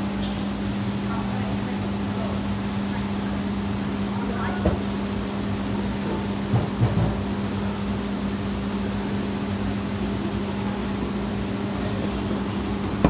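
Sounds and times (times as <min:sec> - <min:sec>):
aquarium pumps humming: 0:00.0 - 0:13.0.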